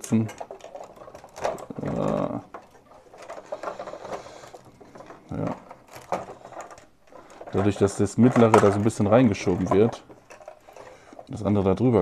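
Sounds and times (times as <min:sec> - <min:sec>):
plastic bricks clicking and clattering: 0:00.0 - 0:12.0.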